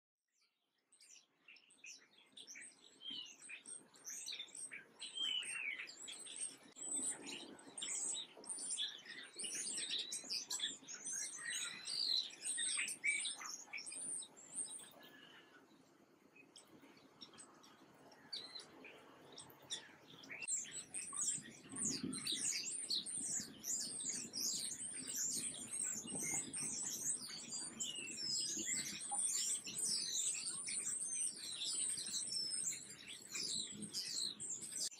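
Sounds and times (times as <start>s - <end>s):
small songbirds chirping: 0.3s - 34.9s.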